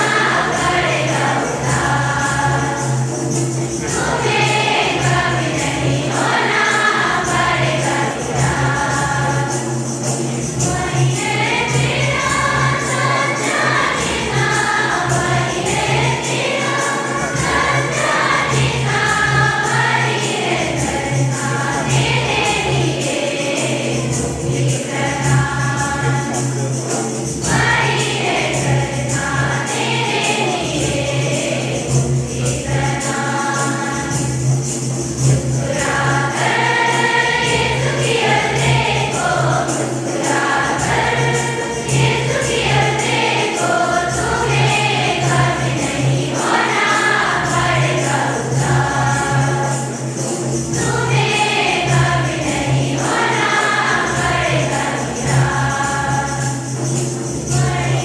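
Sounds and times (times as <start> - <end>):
group singing a hymn: 0.0 - 58.0
shaken jingling percussion: 0.0 - 58.0.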